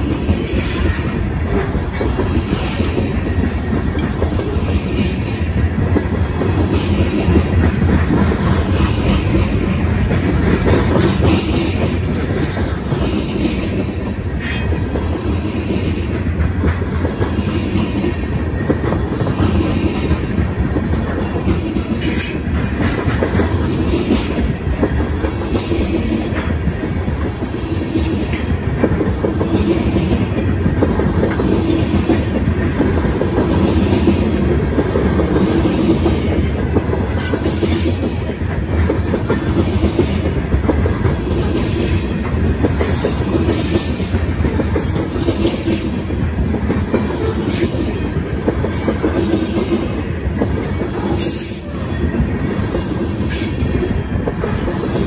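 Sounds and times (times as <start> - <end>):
freight train rumbling past: 0.0 - 55.0
wheels clacking over rail joints: 0.0 - 55.0.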